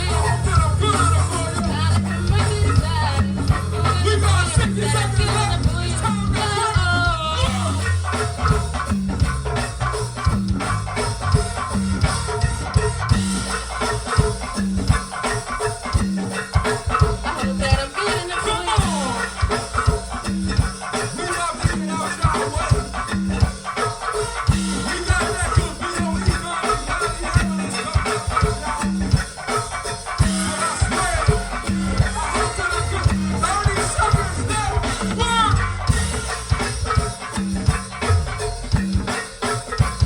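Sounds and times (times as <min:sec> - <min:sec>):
drums: 0:00.0 - 0:40.0
repeating bass line: 0:00.0 - 0:40.0.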